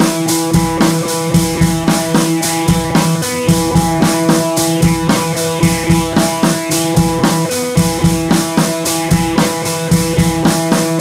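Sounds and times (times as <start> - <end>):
drum kit beat: 0.0 - 11.0
rock music: 0.0 - 11.0.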